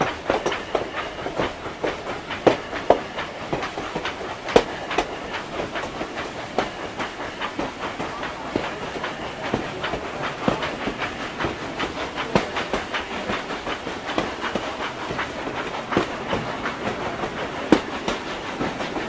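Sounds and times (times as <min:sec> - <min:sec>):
model train wheels clicking: 0:00.0 - 0:19.0
steady rolling noise: 0:00.0 - 0:19.0.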